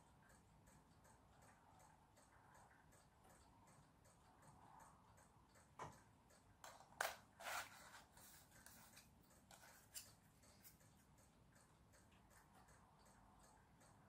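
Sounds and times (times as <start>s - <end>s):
faint regular ticking: 0.0s - 7.4s, 8.1s - 14.0s.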